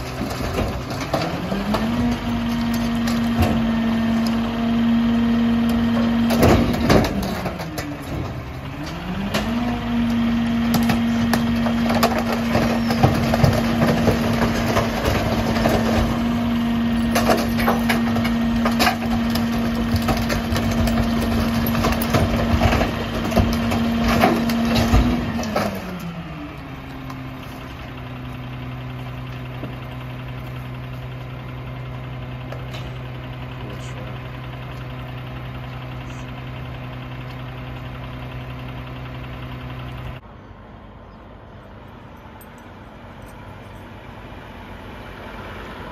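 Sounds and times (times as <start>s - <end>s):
garbage truck engine revving and idling: 0.0s - 45.9s.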